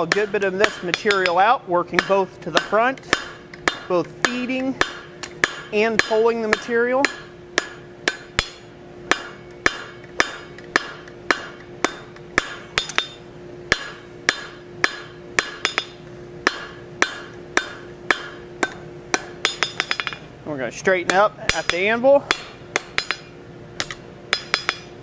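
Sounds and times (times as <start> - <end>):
hammer striking steel on anvil: 0.0 - 20.3, 21.0 - 25.0
steady hum: 0.0 - 25.0.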